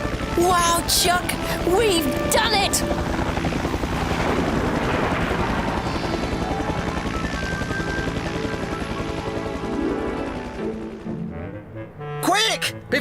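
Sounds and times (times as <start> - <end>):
cartoon helicopter rotor chopping: 0.0 - 12.5
background music: 0.0 - 13.0.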